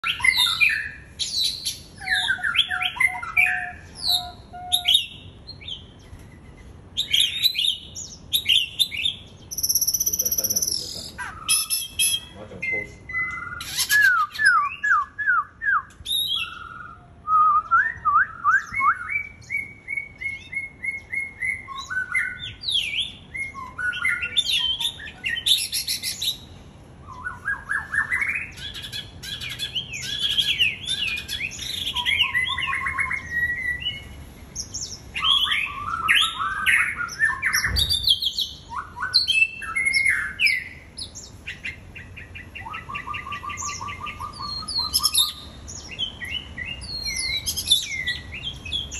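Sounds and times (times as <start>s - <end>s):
bird singing whistled song: 0.0s - 6.0s, 7.0s - 48.9s.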